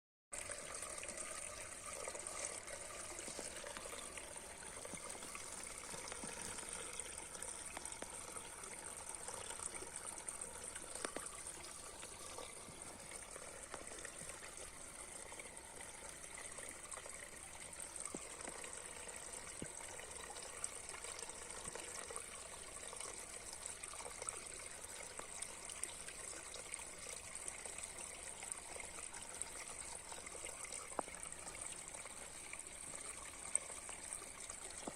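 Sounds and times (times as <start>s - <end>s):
spring water trickling: 0.3s - 34.9s.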